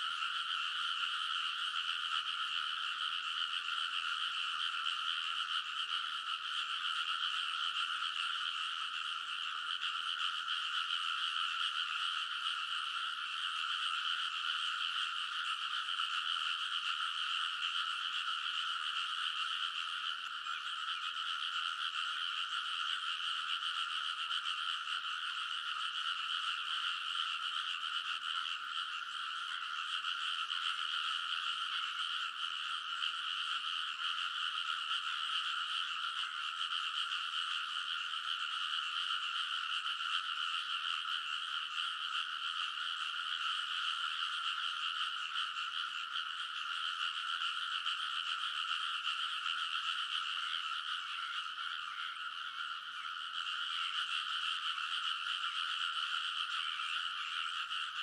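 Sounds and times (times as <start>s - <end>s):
chorus of frogs croaking: 0.0s - 58.0s.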